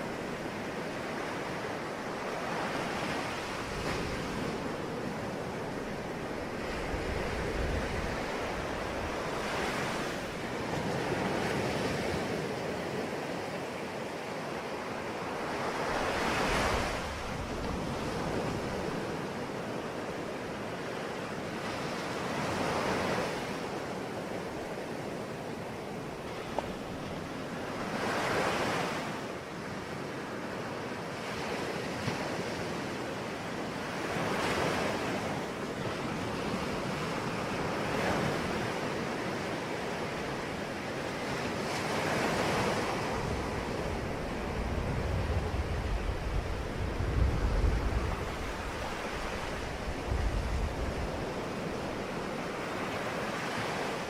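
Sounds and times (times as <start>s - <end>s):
sea waves breaking ashore: 0.0s - 54.0s.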